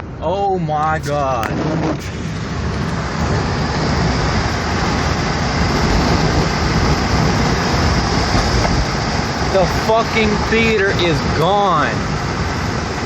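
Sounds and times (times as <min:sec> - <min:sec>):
vehicle and road rumble: 0:00.0 - 0:13.0.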